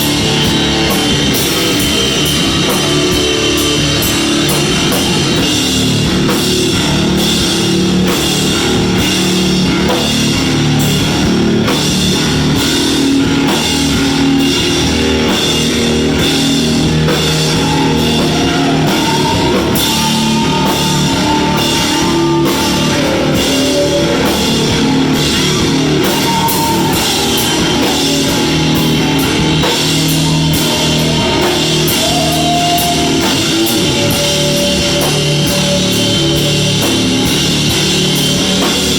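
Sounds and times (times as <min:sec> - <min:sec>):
cymbals: 0:00.0 - 0:38.9
distorted electric guitar: 0:00.0 - 0:38.9
drum kit steady beat: 0:00.0 - 0:38.9.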